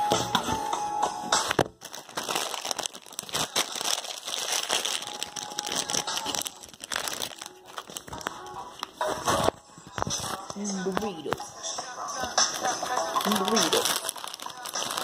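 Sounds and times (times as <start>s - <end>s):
plastic bag crinkling: 1.4s - 11.3s, 12.0s - 15.0s.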